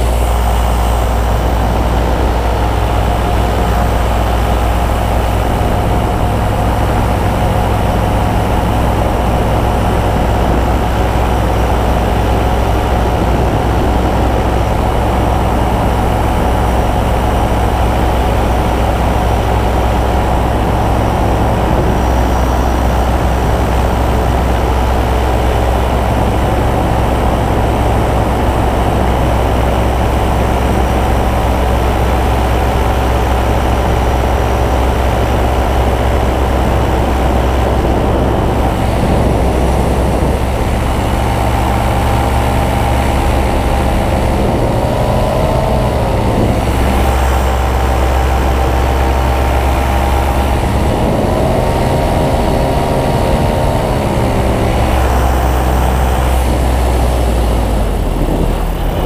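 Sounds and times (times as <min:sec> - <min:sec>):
paramotor engine running: 0:00.0 - 0:59.0.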